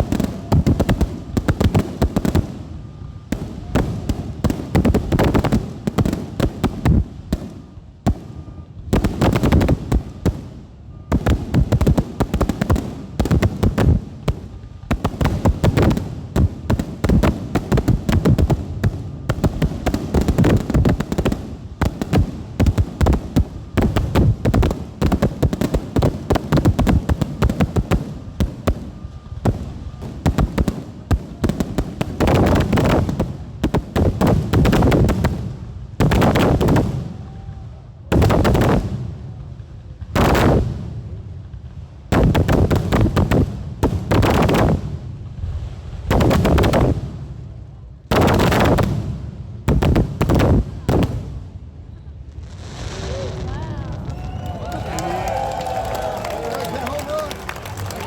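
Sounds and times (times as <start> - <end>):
fireworks popping and crackling: 0.0 - 58.0.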